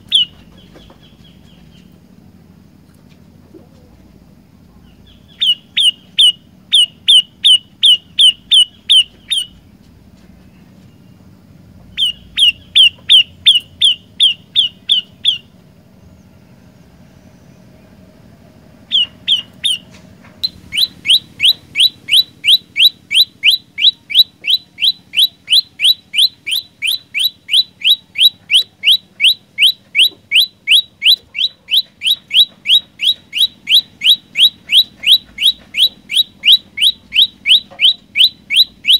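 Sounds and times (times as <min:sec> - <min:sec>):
bird singing sharp chip notes: 0:00.0 - 0:01.9, 0:04.9 - 0:09.7, 0:11.9 - 0:16.4, 0:18.9 - 0:38.9.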